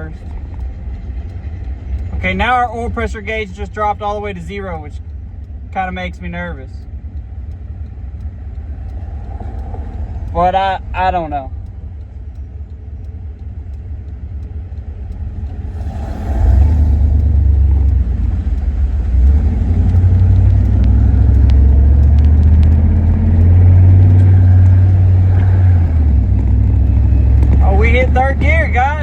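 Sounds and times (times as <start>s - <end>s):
truck engine pulling hard: 0.0s - 29.0s.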